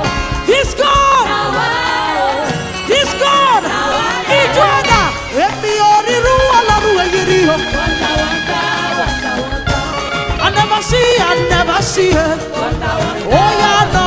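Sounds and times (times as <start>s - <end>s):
gospel band accompaniment: 0.0s - 14.0s
person singing: 0.0s - 14.0s.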